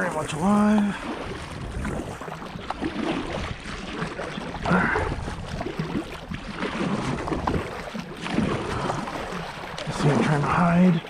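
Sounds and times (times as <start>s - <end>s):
kayak hull moving through water: 0.0s - 11.0s
paddle splashing in water: 0.0s - 11.0s.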